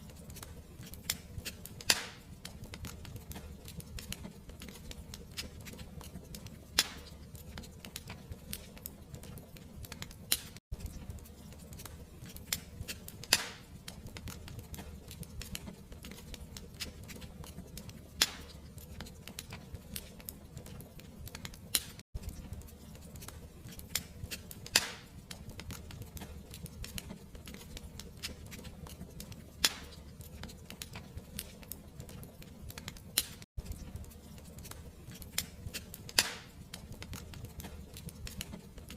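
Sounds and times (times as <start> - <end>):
fireplace fire crackling: 0.0 - 38.9
fire popping: 0.1 - 38.9.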